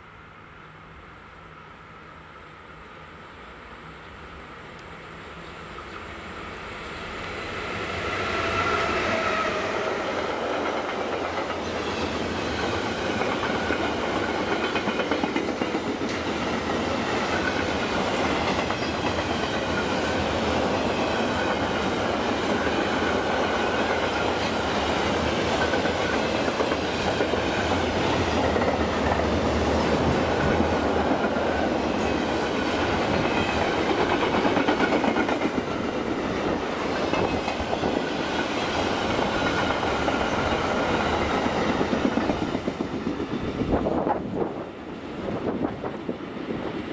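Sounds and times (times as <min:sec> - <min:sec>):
freight train wheels rolling: 0:04.6 - 0:46.9.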